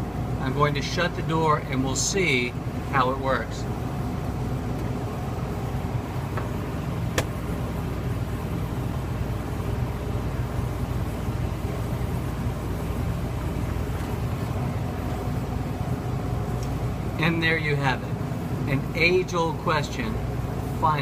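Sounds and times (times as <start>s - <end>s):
refrigerator humming: 0.0s - 21.0s.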